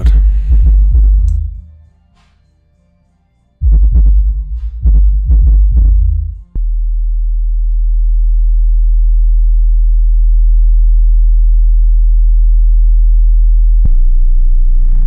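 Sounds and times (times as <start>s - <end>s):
deep sine tone from subwoofer: 0.0s - 1.8s, 3.6s - 15.0s.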